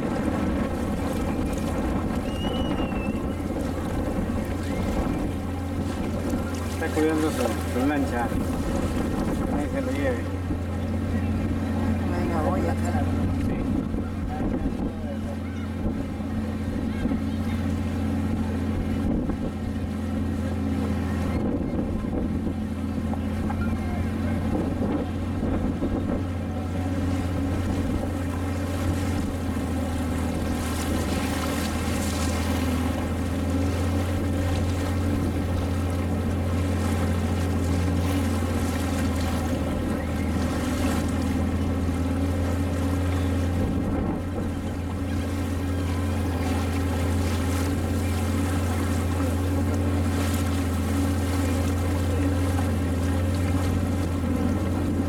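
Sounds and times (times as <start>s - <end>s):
boat engine droning: 0.0s - 55.0s
wind: 0.0s - 55.0s.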